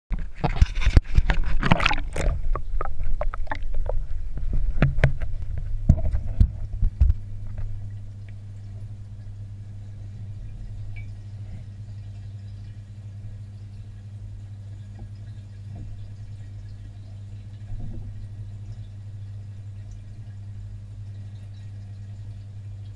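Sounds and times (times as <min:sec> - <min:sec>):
underwater low hum: 0:00.1 - 0:22.9.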